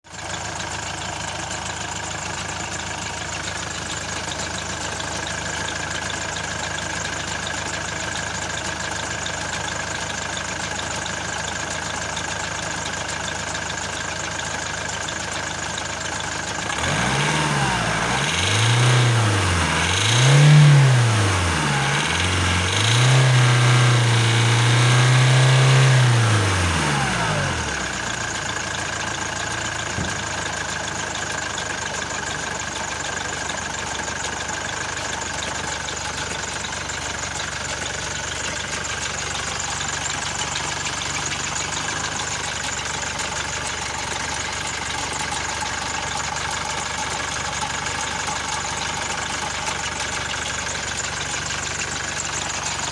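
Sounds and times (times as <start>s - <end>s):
diesel engine idling and revving: 0.0s - 52.9s.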